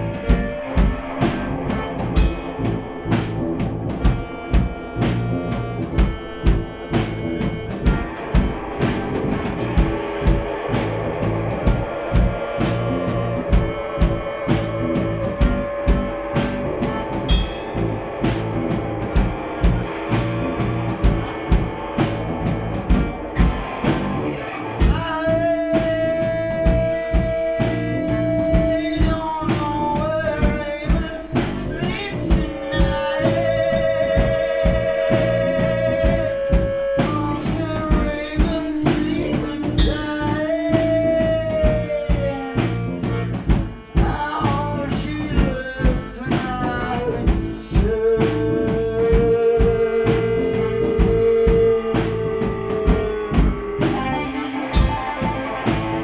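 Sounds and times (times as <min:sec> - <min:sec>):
drum beat: 0:00.0 - 0:56.0
held melody line: 0:00.0 - 0:56.0
rock band with accordion playing: 0:00.0 - 0:56.0.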